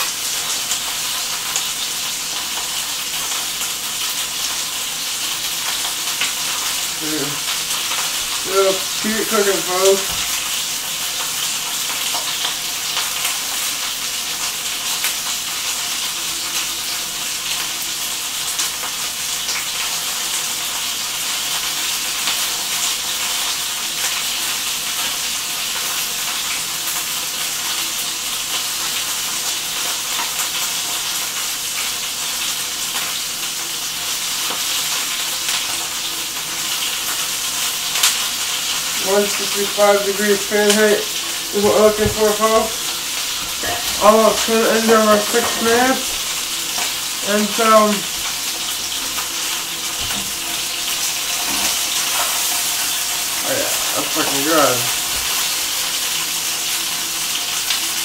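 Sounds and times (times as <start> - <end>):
chicken sizzling in a skillet: 0.0 - 58.0.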